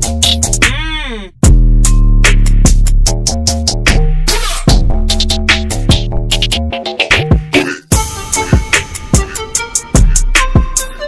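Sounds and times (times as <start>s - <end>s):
music with a beat: 0.0s - 11.0s.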